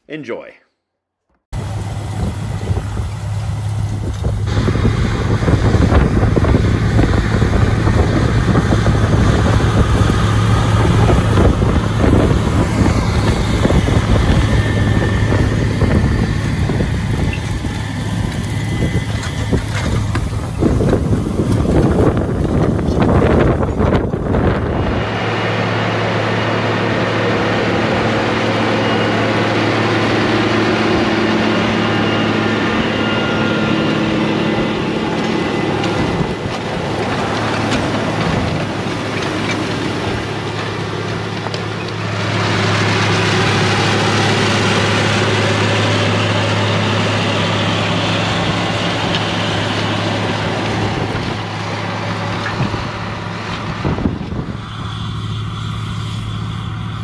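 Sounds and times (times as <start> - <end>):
tractor diesel engine under load: 1.5 - 57.0
wind buffeting microphone: 1.6 - 28.3, 29.9 - 56.4.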